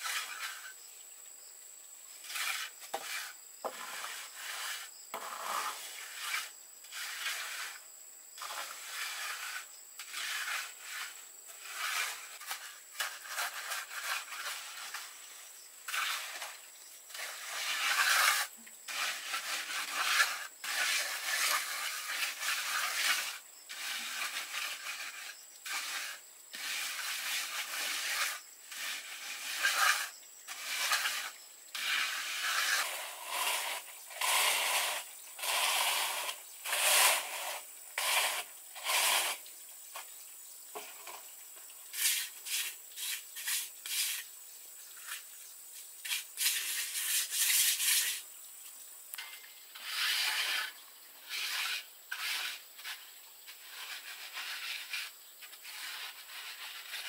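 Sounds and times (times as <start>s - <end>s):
trowel scraping wet concrete: 0.0s - 0.8s, 2.2s - 40.1s, 41.9s - 44.4s, 45.0s - 45.4s, 46.0s - 48.3s, 49.1s - 57.0s.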